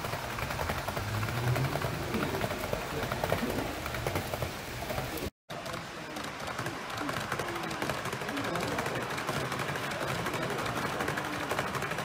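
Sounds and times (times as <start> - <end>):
clicks over rail joints: 0.0 - 12.0
model train wheels rattling: 0.0 - 12.0.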